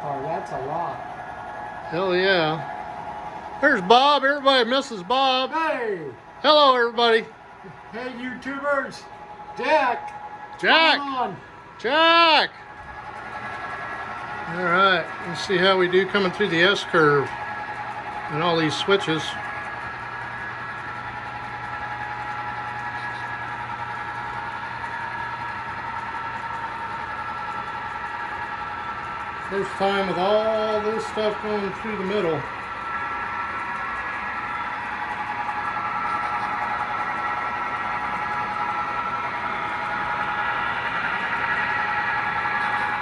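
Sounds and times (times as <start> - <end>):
high whining tones: 0.0 - 43.0
model train running: 0.0 - 43.0.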